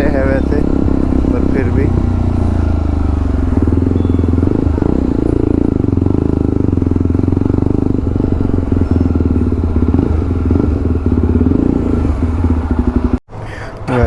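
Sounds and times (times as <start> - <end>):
motorcycle engine idling: 0.0 - 13.2.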